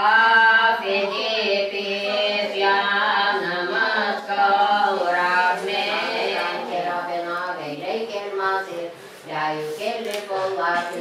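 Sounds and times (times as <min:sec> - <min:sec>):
unaccompanied melodic chanting: 0:00.0 - 0:11.0.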